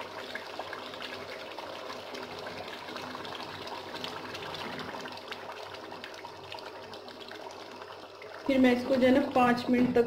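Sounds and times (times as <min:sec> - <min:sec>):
gravy bubbling and sizzling: 0:00.0 - 0:10.0.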